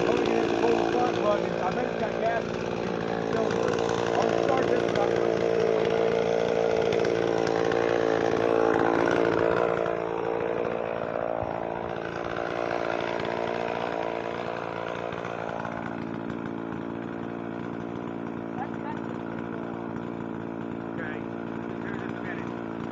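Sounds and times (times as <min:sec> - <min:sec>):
gasoline chainsaw running: 0:00.0 - 0:22.9.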